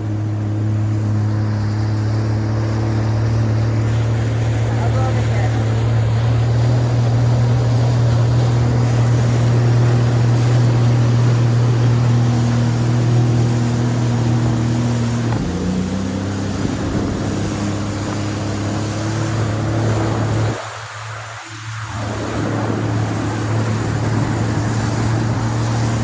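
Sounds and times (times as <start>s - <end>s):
jet ski engine running: 0.0s - 26.0s.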